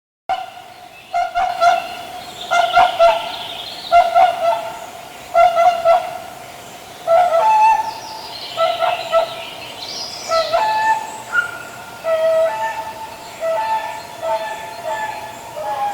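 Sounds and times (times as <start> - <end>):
swans honking: 0.3 - 6.4, 7.0 - 9.6, 10.3 - 15.9.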